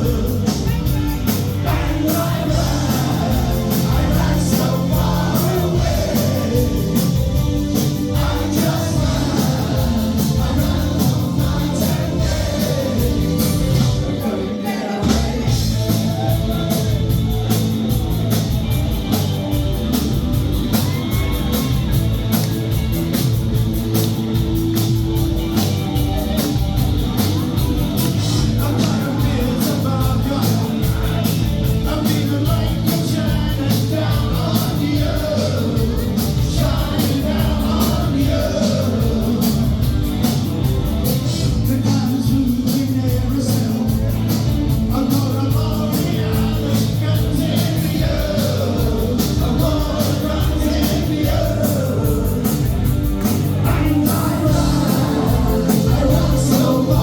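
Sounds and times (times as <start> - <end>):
man singing lead vocals: 0.0 - 18.4, 28.0 - 40.4, 41.0 - 57.0
live new wave band: 0.0 - 57.0.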